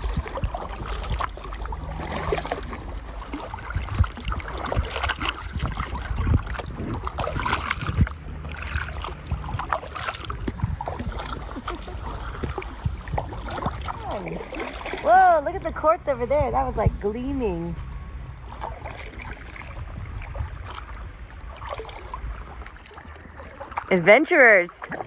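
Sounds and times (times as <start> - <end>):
kayak paddle splashing in water: 0.0 - 25.0.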